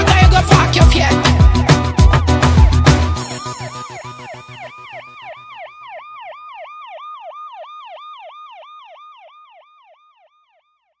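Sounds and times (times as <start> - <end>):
warbling siren effect: 0.0 - 11.0.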